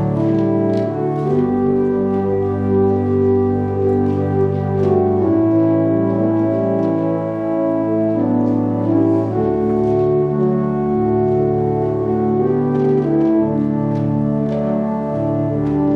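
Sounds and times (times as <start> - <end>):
organ playing slow chords: 0.0 - 15.9.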